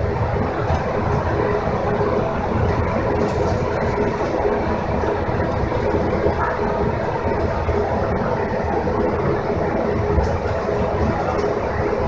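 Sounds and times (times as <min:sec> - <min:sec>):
people mover cabin rumble: 0:00.0 - 0:12.0.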